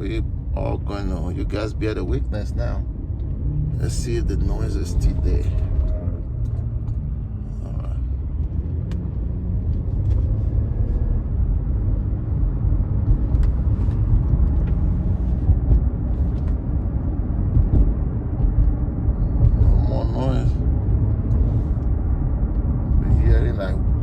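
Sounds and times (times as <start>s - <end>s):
car cabin road and engine rumble: 0.0s - 24.0s.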